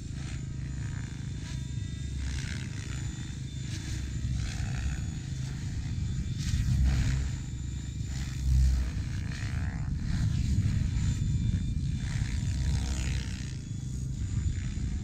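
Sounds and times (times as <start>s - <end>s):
rc helicopter rotor and motor: 0.0s - 15.0s.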